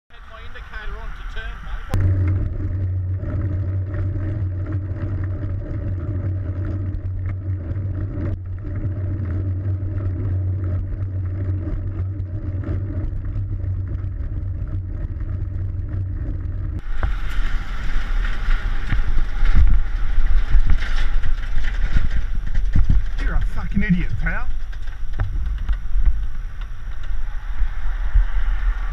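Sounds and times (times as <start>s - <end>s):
low engine hum: 0.1s - 28.9s
road noise: 0.1s - 28.9s
road traffic: 0.1s - 28.9s
wind rush on microphone: 1.0s - 28.9s.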